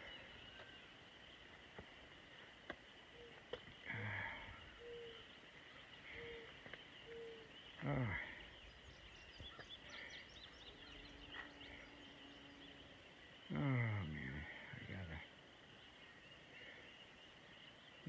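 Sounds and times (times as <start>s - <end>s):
high faint chirping: 0.0s - 18.0s.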